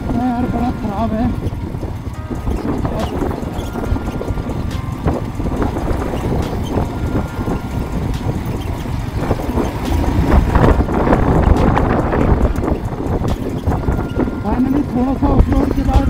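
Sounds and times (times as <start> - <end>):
motorcycle engine rumble: 0.0 - 16.0
wind buffeting microphone: 0.0 - 16.0
knocks and rattles from bumps: 1.2 - 14.4.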